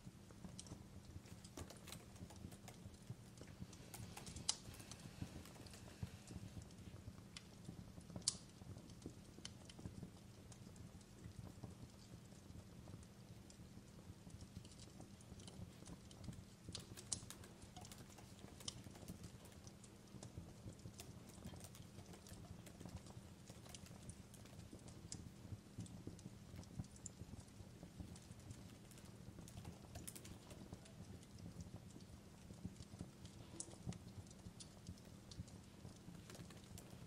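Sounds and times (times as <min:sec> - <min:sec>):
fireplace crackling and popping: 0:00.0 - 0:37.0.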